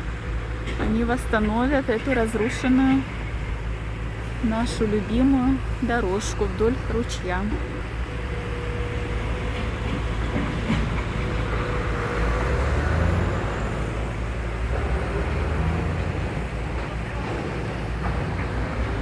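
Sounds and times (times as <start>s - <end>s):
construction machinery engine rumble: 0.0s - 19.0s.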